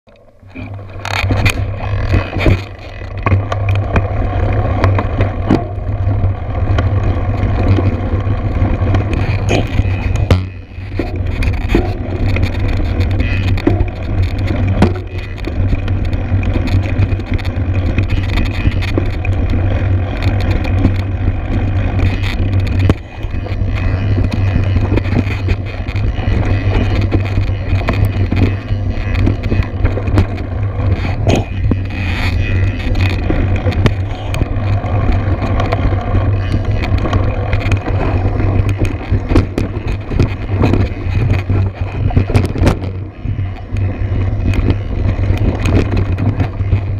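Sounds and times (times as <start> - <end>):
wind noise on microphone: 0.1 - 46.9
bike tyres clattering over stones: 0.2 - 46.9.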